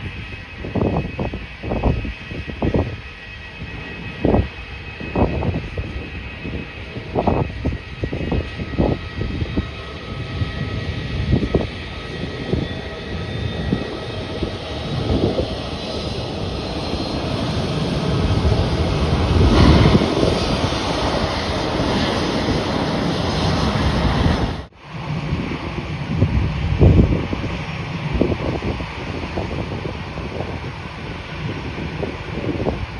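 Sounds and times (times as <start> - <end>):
jet engines passing: 0.0 - 32.9
wind on microphone: 0.0 - 32.9.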